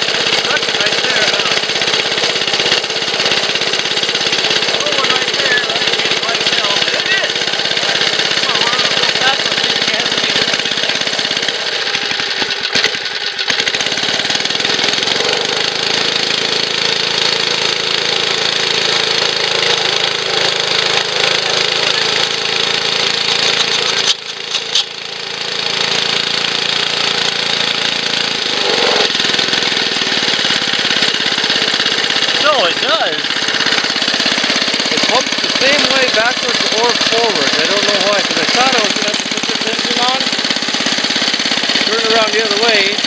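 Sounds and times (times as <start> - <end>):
air compressor pump: 0.0 - 43.0
small gas engine running: 0.0 - 43.0.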